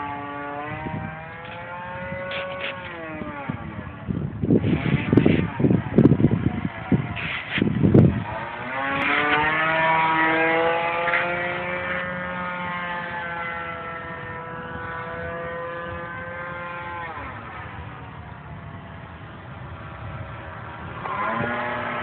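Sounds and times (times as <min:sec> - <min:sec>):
model plane engine buzzing: 0:00.0 - 0:22.0.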